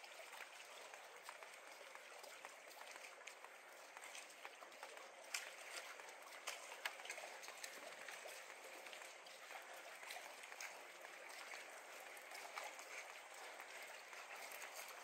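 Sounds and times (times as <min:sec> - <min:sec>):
water lapping under dock: 0:00.0 - 0:15.0.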